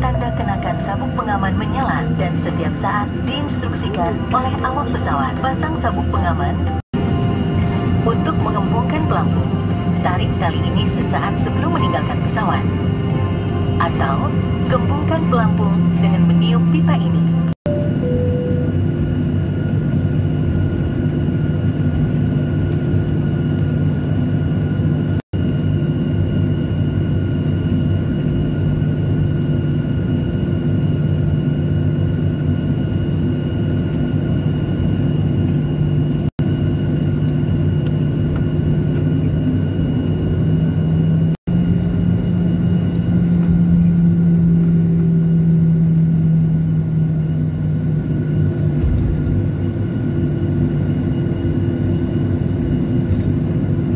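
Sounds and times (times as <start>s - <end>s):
jet engines rumbling: 0.0s - 53.9s.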